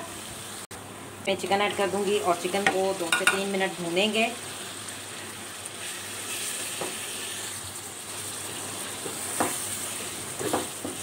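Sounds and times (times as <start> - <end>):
chicken sizzling in hot oil: 1.6 - 11.0.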